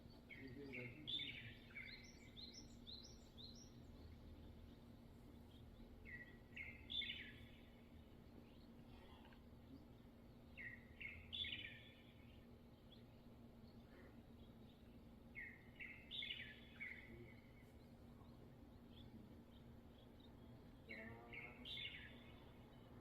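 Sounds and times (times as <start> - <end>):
faint low hum: 0.0 - 23.0
songbird chirping: 0.0 - 23.0.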